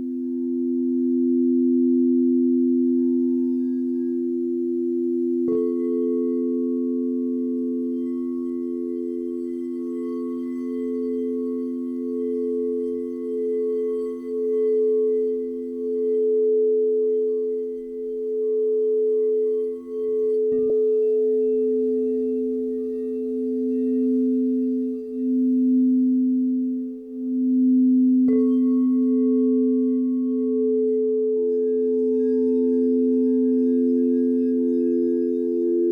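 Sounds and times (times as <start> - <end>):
singing bowls ringing: 0.0 - 35.9.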